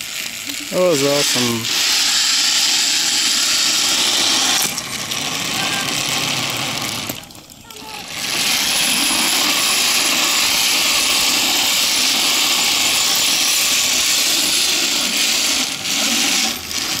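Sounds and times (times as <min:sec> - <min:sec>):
pulleys rolling along steel cable: 0:00.0 - 0:17.0.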